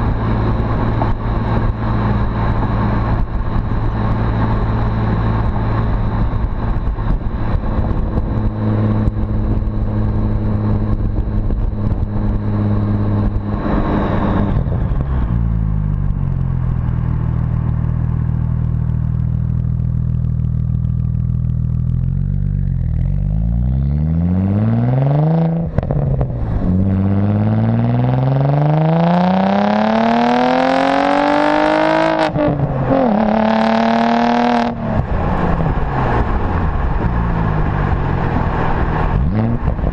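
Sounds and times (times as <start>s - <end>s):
car engine and exhaust revving: 0.0s - 39.9s
engine pitch dropping at upshifts: 0.0s - 39.9s.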